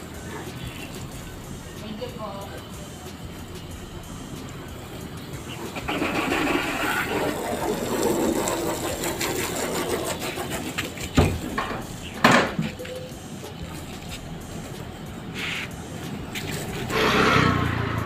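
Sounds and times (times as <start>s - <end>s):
water spraying from hose: 0.0s - 18.0s.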